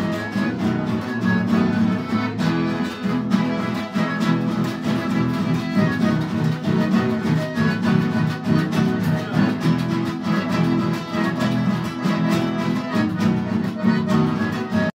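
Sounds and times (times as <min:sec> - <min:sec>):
accordion playing chords: 0:00.0 - 0:15.0
acoustic guitars strumming: 0:00.0 - 0:15.0.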